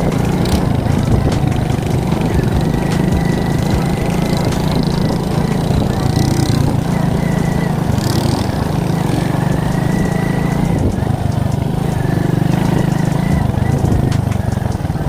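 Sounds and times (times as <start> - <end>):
moped engine running: 0.0 - 15.0.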